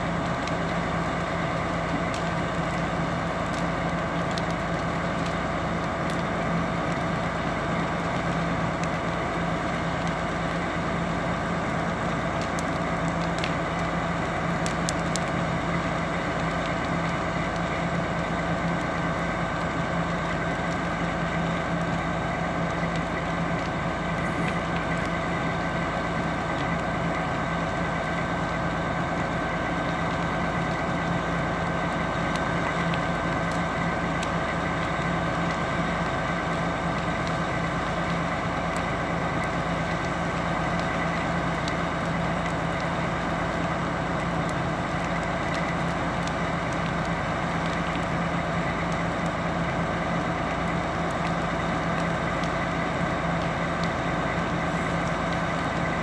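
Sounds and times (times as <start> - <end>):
fire crackling and popping: 0.0 - 56.0
fire truck engine humming: 0.0 - 56.0.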